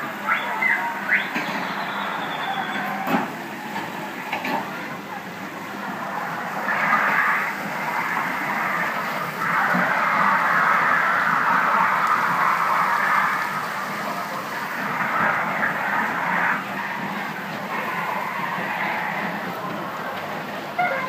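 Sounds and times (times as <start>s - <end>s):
amusement ride mechanical rumble: 0.0s - 21.0s.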